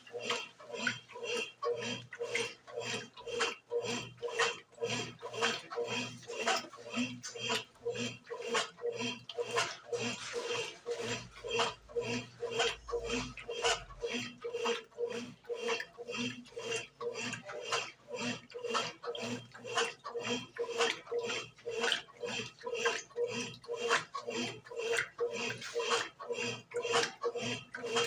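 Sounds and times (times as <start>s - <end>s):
washing machine motor hum: 0.0s - 28.0s
washing machine sloshing: 0.0s - 28.0s.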